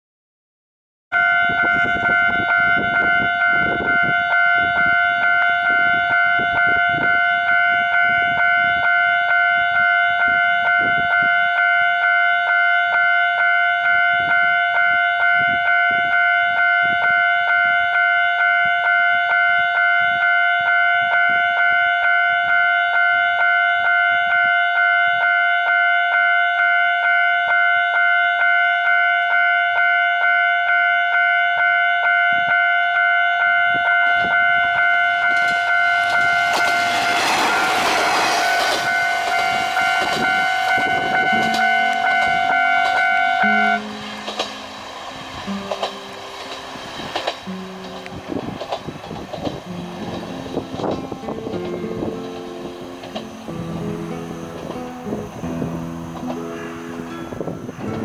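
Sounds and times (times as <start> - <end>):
level-crossing alarm ringing: 1.2 - 48.5.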